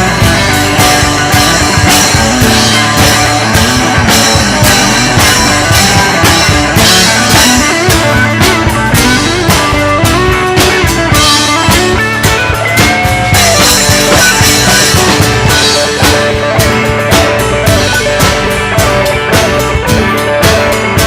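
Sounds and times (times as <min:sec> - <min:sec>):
drum-kit beat: 0:00.0 - 0:21.0
electric guitar lines: 0:00.0 - 0:21.0.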